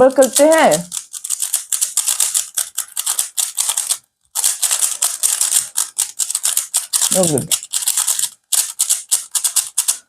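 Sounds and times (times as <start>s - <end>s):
plastic puzzle cube layers clicking: 0.0s - 10.0s.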